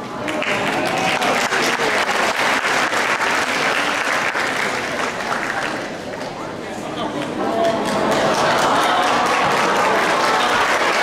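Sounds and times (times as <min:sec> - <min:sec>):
audience applauding: 0:00.1 - 0:06.3, 0:07.2 - 0:11.0.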